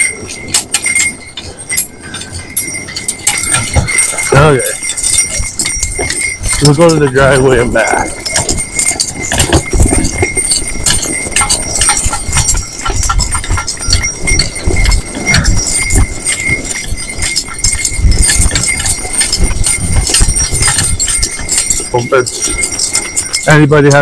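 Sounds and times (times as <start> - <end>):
horse hoofbeats on snow: 0.0 - 24.0
rattling clicks and knocks: 0.0 - 24.0.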